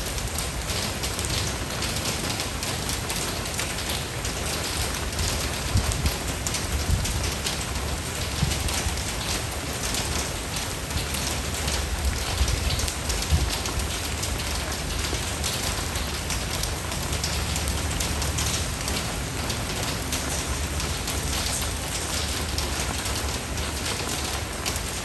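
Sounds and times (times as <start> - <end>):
rain pattering on a surface: 0.0 - 25.0.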